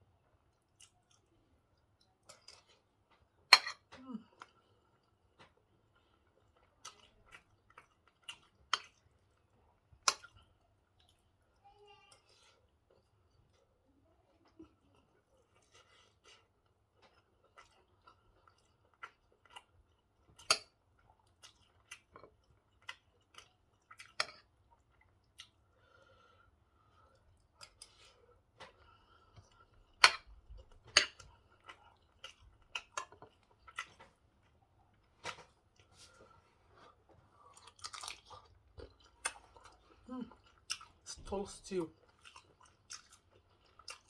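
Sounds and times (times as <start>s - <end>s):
person chewing and lip-smacking: 0.5s - 11.4s, 14.4s - 25.8s, 26.9s - 44.0s.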